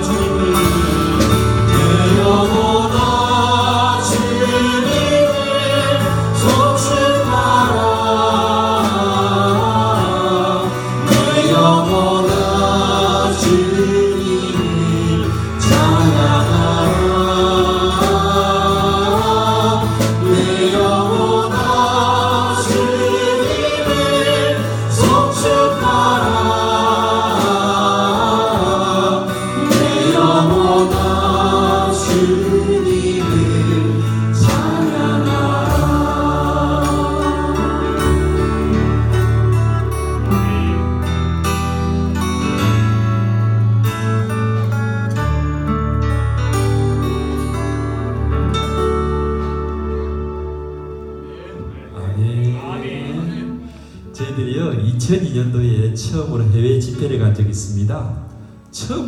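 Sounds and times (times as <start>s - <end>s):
people singing worship song: 0.0s - 42.8s, 47.1s - 59.0s
instrumental backing with beat: 0.0s - 54.2s.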